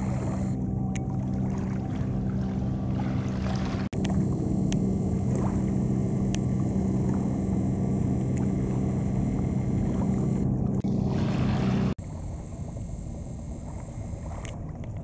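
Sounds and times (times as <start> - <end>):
ferry engine drone: 0.0 - 15.0.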